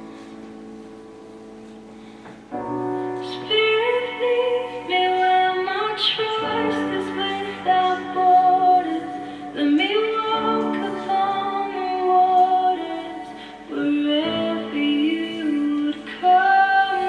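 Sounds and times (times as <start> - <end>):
woman singing: 3.0 - 17.0.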